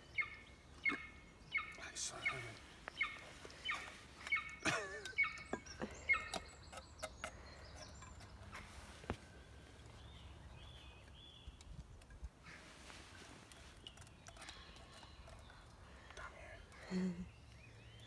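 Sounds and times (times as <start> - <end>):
birds harsh calls: 0.0 - 18.0
faint bird chirps: 0.0 - 18.0.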